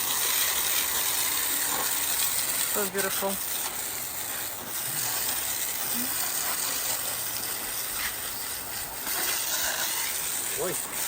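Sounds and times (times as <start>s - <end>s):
band sawmill running: 0.0s - 11.0s.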